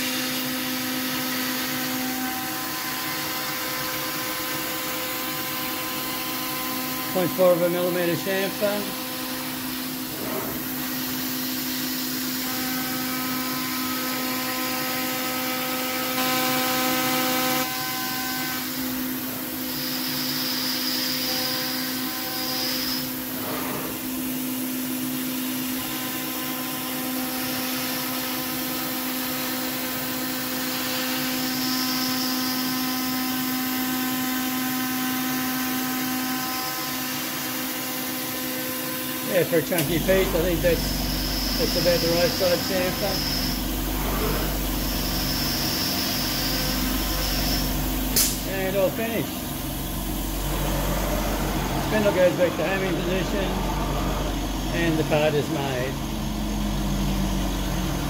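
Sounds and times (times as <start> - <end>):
router spindle running: 0.0 - 23.6, 25.2 - 58.0.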